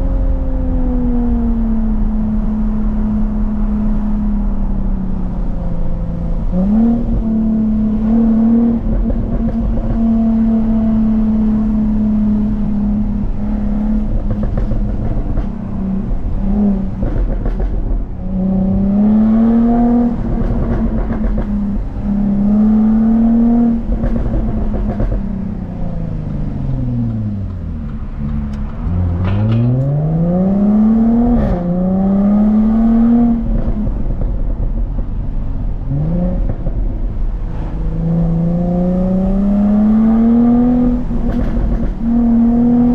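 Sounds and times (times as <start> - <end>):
car engine accelerating through gears: 0.0 - 42.9.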